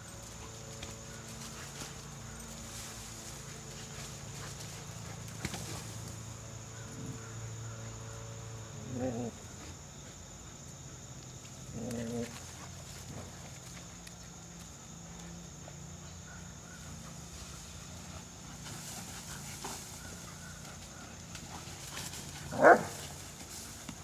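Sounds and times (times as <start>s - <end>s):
dogs playing and wrestling: 0.0s - 24.0s
high insect drone: 0.0s - 24.0s.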